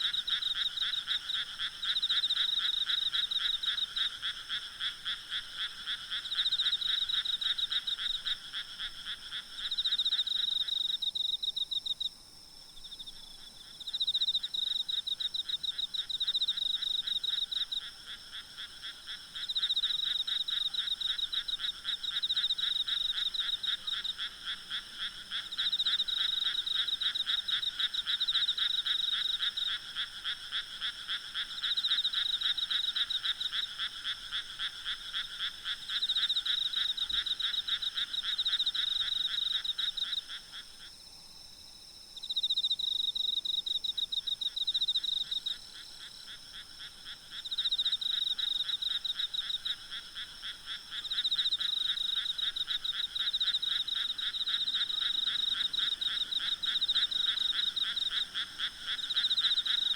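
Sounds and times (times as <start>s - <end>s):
frogs croaking: 0.0s - 12.1s, 12.8s - 41.1s, 41.9s - 59.9s
insects droning: 0.0s - 59.9s.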